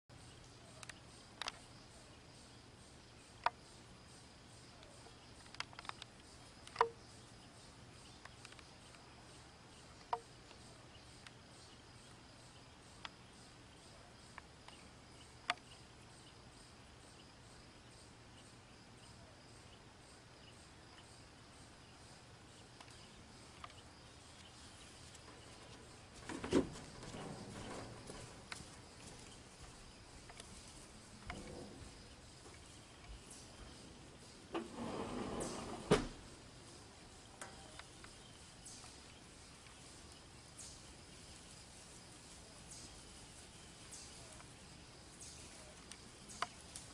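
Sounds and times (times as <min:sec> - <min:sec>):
insect hum: 0:00.1 - 0:46.9.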